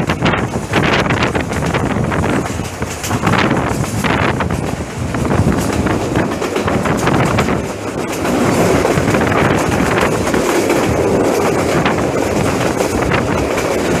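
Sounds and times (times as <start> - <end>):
train wheels clattering: 0.0 - 14.0
wind noise on microphone: 0.0 - 14.0.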